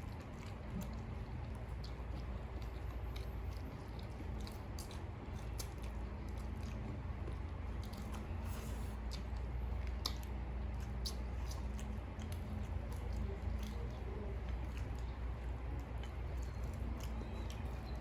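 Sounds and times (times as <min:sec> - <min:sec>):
person chewing: 0:00.0 - 0:18.0
steady low hum: 0:00.0 - 0:18.0.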